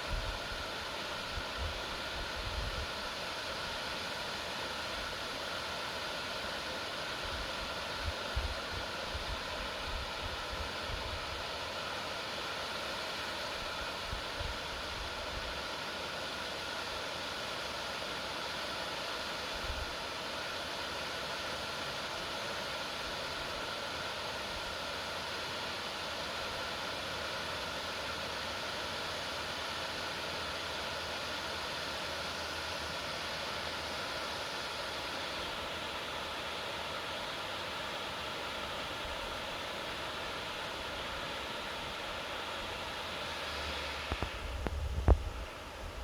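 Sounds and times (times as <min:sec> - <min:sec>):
steady outdoor hiss: 0:00.0 - 0:46.0.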